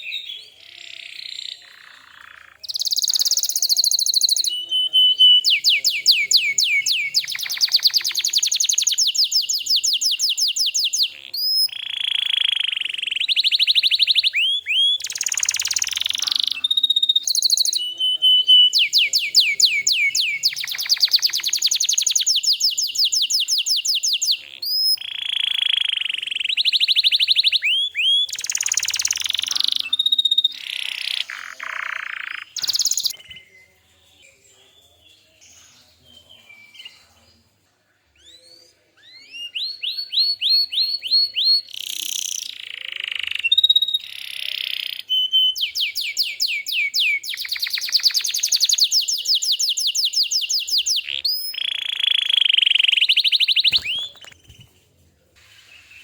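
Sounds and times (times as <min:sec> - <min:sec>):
canary singing trills: 0:00.0 - 0:37.4, 0:38.2 - 0:54.7.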